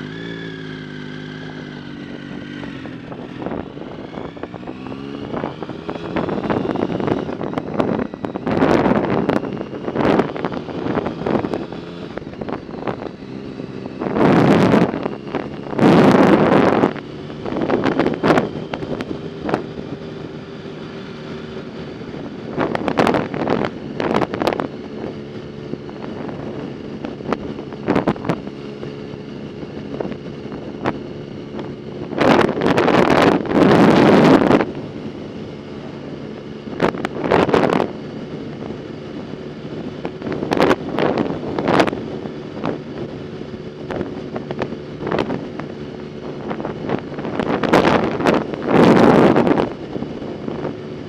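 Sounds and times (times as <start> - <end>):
vehicle hum: 0.0 - 51.0
wind buffeting microphone: 0.0 - 51.0.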